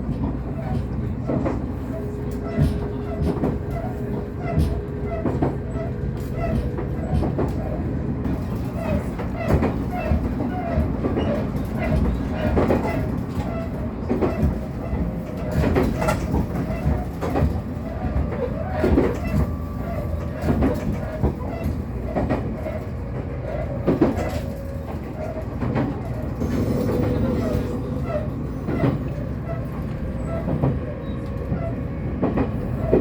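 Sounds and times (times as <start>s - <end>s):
diesel train rumbling: 0.0s - 33.0s
wheels clacking over rail joints: 0.0s - 33.0s.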